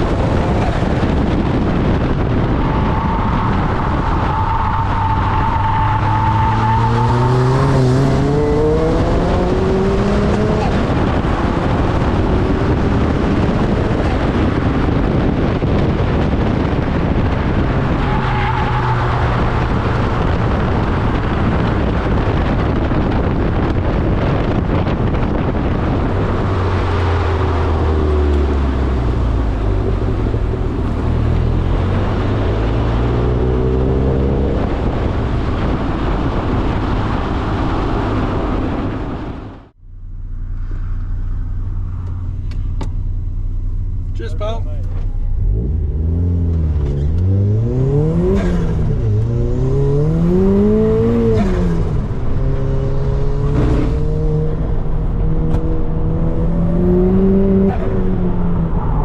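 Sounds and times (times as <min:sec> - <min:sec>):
car engine accelerating hard: 0:00.0 - 0:39.6, 0:44.9 - 0:59.0.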